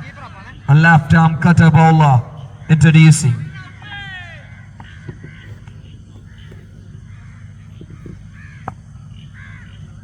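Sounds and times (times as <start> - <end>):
short harsh calls: 0.0 - 9.9
steady low hum: 0.0 - 10.0.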